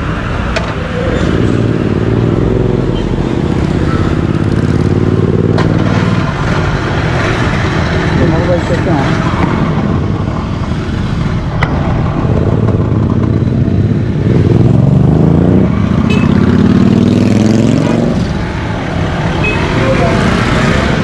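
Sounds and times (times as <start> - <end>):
motorcycle engines in traffic: 0.0 - 21.0
motorcycle engine revving: 1.0 - 21.0.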